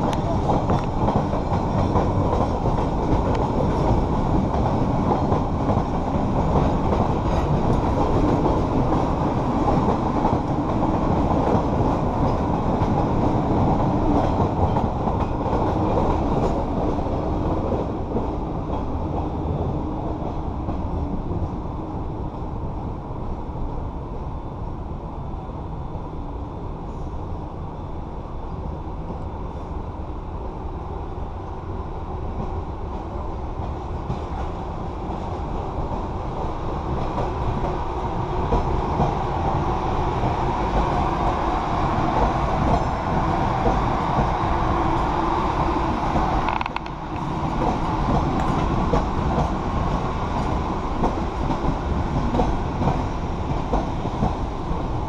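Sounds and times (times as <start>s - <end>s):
train rumbling on rails: 0.0s - 55.0s.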